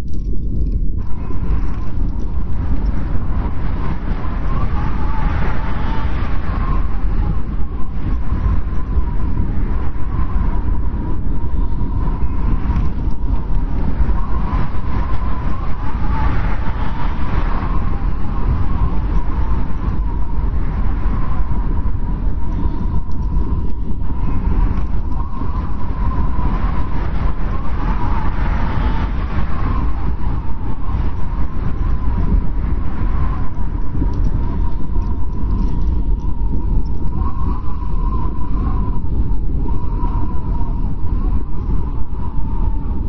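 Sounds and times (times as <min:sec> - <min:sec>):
blizzard wind howling: 0:00.0 - 0:43.0.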